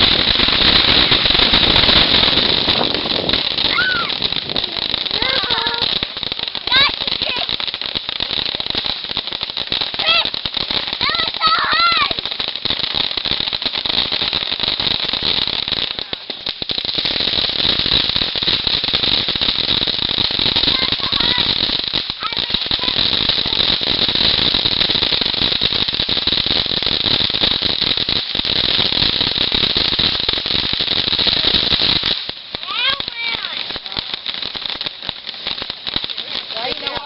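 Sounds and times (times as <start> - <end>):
fireworks crackling: 0.0 - 37.0
fireworks whistles: 0.0 - 37.0.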